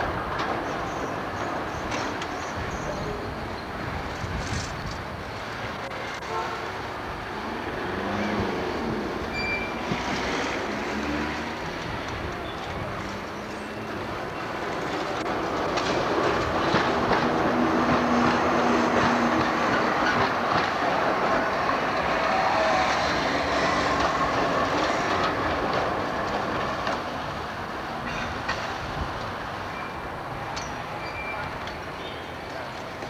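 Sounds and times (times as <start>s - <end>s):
tram wheels clattering over rails: 0.0s - 33.0s.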